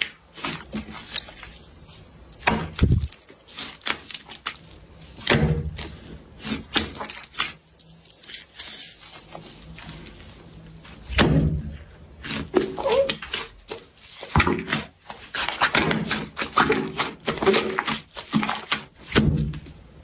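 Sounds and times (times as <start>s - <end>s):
slime squelching: 0.0s - 20.0s.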